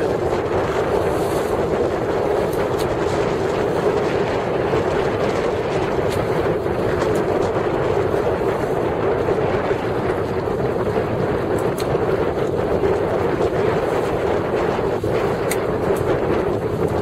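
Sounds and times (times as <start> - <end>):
boat engine rumbling: 0.0 - 17.0
wind buffeting microphone: 0.0 - 17.0.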